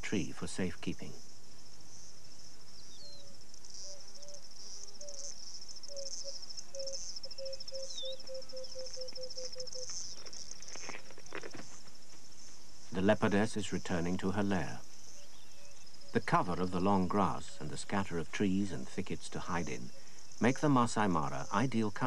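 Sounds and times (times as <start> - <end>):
pulsing insect trill: 0.2 - 22.0.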